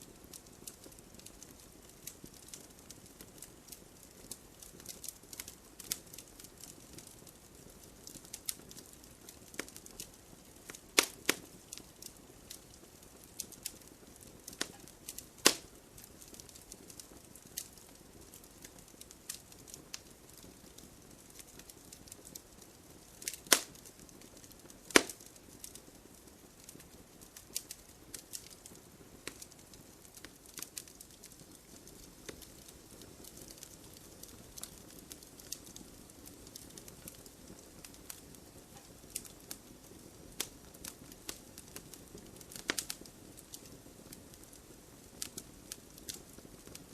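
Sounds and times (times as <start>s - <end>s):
campfire crackling and popping: 0.0s - 46.9s
faint steady hiss: 0.0s - 46.9s.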